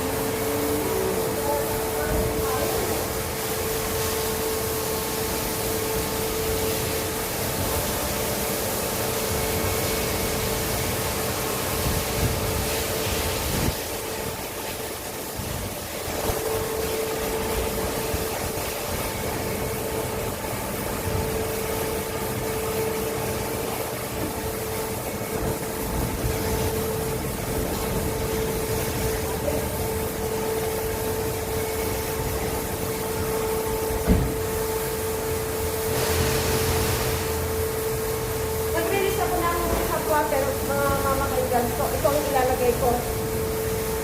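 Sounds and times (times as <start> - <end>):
machine hum over hiss: 0.0 - 44.0.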